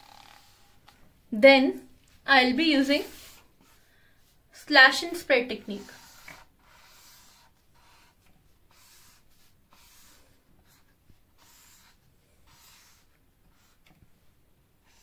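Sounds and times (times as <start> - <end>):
marker scratching on whiteboard: 0.0 - 0.8, 2.6 - 14.0, 14.8 - 15.0.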